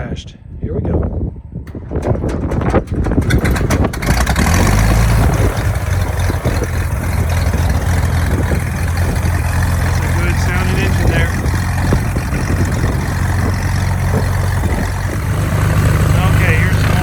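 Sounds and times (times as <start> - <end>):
aircraft engine starting: 1.6 - 17.0.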